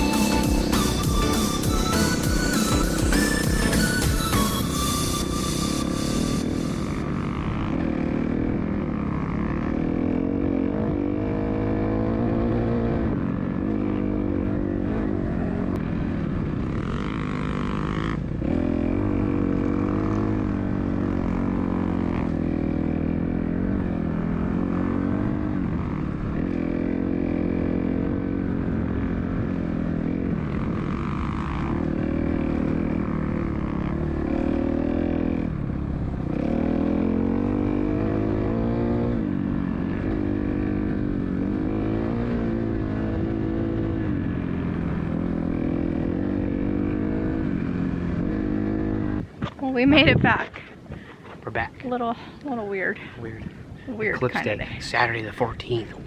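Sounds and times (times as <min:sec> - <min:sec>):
dirt bike engine revving: 0:00.0 - 0:50.4.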